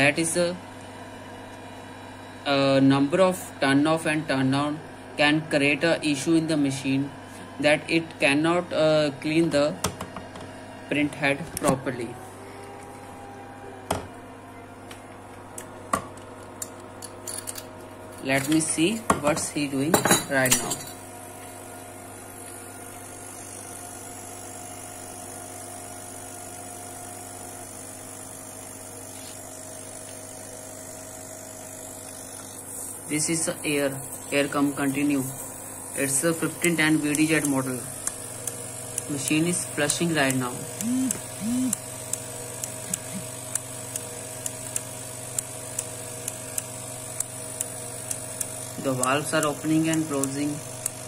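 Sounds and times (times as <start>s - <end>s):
machine hum: 0.0s - 51.0s.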